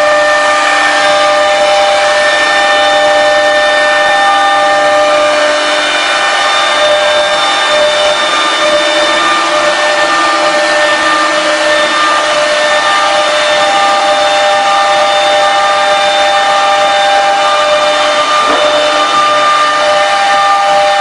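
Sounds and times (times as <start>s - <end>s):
bit cutting board: 0.0s - 21.0s
router spindle whine: 0.0s - 21.0s.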